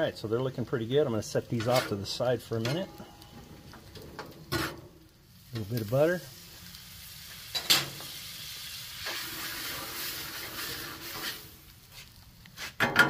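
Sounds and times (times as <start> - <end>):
butter sizzling on a griddle: 0.0 - 13.0.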